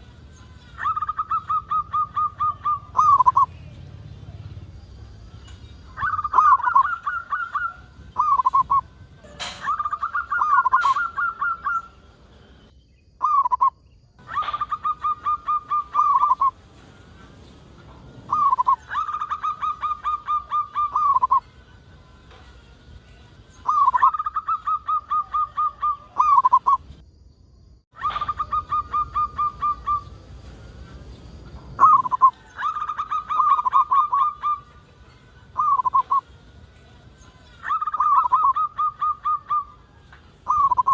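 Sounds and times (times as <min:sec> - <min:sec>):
dove cooing song: 0:00.0 - 0:12.0, 0:13.2 - 0:21.5, 0:23.5 - 0:26.9, 0:28.0 - 0:36.3, 0:37.4 - 0:40.9.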